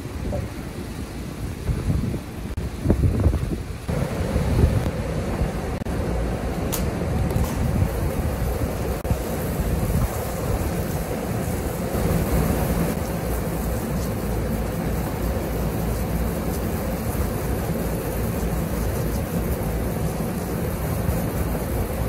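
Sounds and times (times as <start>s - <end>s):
condenser fans rushing: 0.0s - 22.0s
water spraying from a hose: 0.0s - 22.0s.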